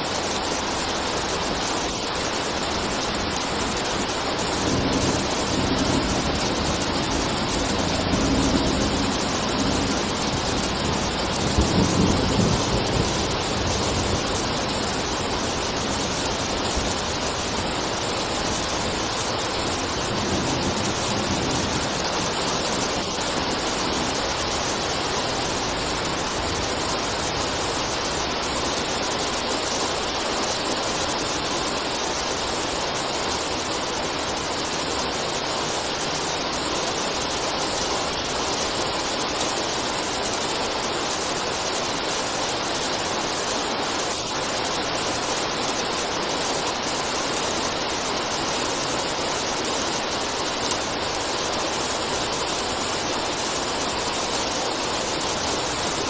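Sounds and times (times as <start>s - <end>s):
rainfall hiss: 0.0s - 56.0s.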